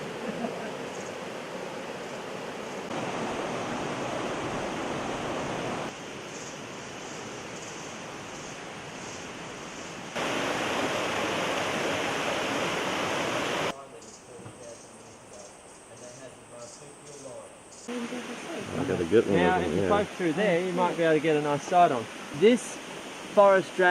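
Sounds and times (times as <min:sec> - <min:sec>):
rushing water: 0:00.0 - 0:13.8, 0:17.9 - 0:23.9.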